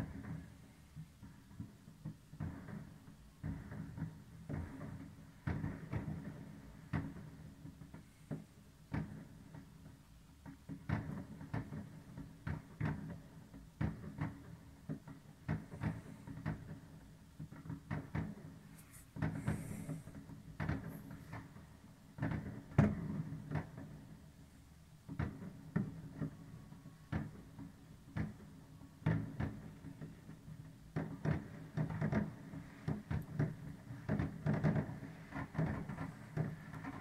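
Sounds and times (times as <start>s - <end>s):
firecrackers banging: 0.0s - 37.0s.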